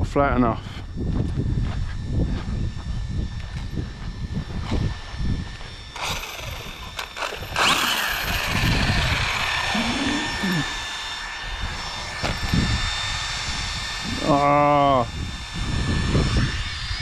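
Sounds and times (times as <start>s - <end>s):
electric motor whining: 0.6s - 17.0s.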